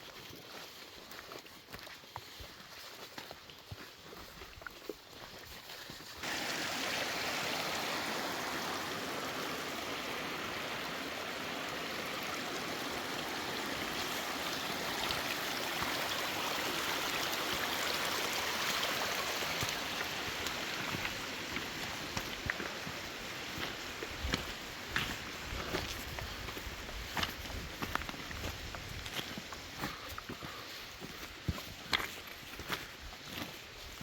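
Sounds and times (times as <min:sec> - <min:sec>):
creek water rushing: 0:06.2 - 0:34.0.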